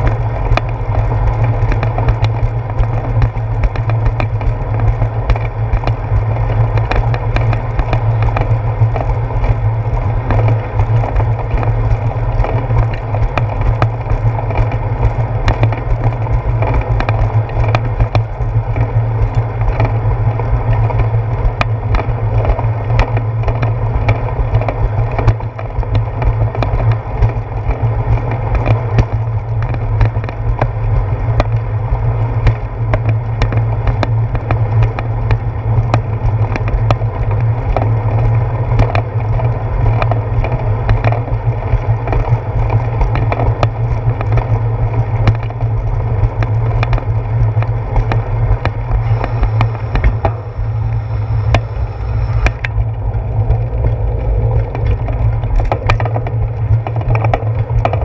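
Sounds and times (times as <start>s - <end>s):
bicycle rolling on concrete: 0.0s - 58.0s
bike clicks and knocks over bumps: 0.0s - 58.0s.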